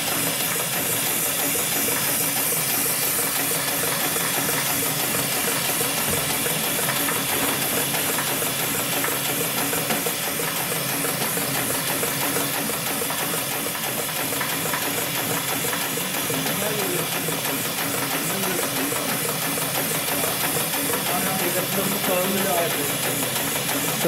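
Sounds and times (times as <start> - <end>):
sewing machine running: 0.0 - 24.0.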